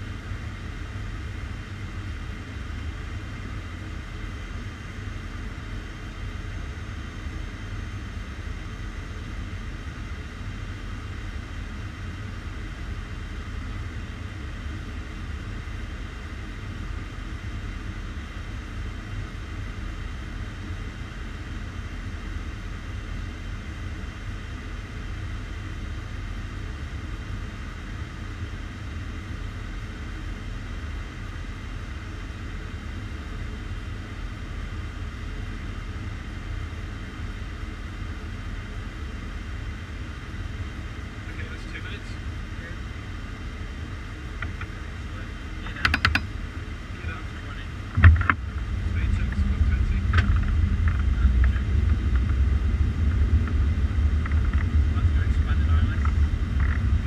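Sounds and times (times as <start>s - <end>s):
airplane cockpit rumble: 0.0s - 57.0s.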